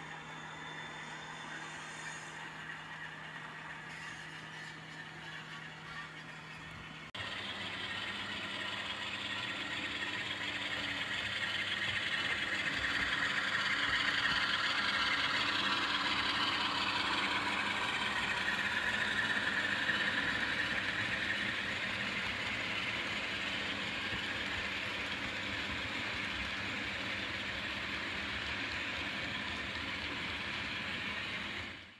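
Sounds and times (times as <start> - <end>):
model train wheels rumbling: 0.0 - 31.9.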